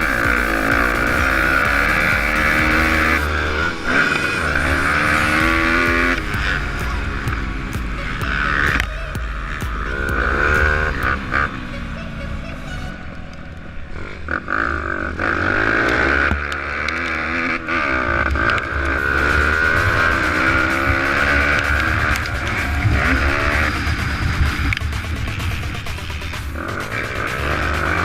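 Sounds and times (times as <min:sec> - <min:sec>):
pit bike engine revving: 0:00.0 - 0:28.0.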